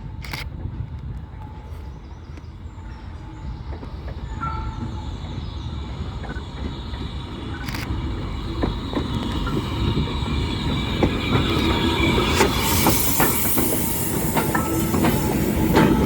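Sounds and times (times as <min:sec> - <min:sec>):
steam train rumbling on track: 0:00.0 - 0:16.0.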